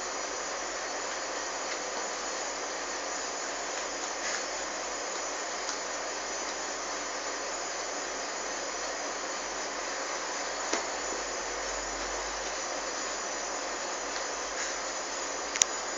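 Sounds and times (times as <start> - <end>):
kitchen equipment hissing: 0.0 - 15.9.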